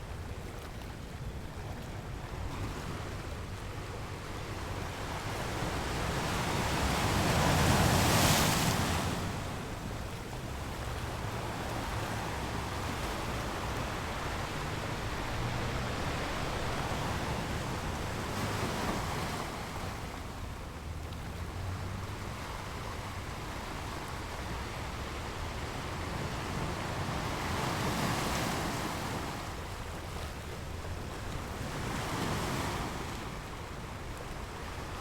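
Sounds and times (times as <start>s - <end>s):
waves breaking on beach: 0.0s - 35.0s.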